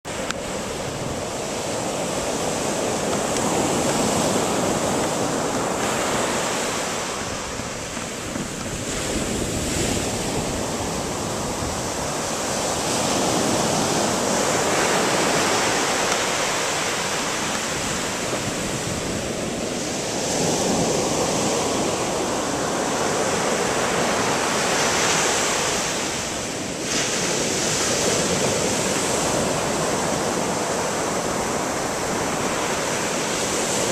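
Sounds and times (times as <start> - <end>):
ocean surf breaking on sand: 0.1 - 33.9.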